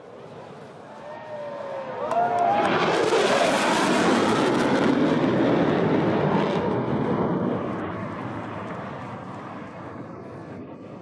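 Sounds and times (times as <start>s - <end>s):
plane engine passing: 0.0s - 11.0s.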